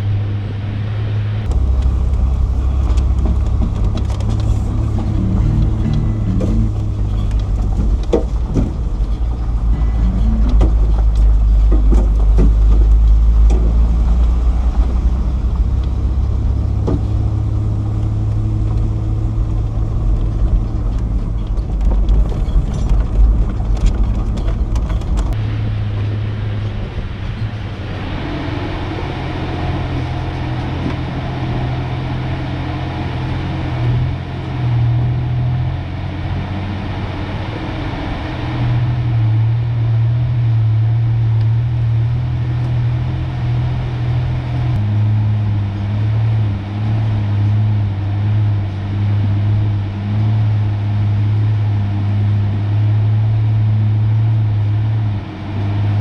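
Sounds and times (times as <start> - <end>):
pickup truck engine drone: 0.0 - 56.0.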